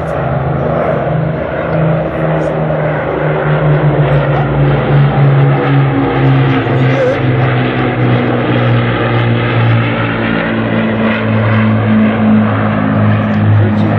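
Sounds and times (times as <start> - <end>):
propeller aircraft engines droning: 0.0 - 13.9.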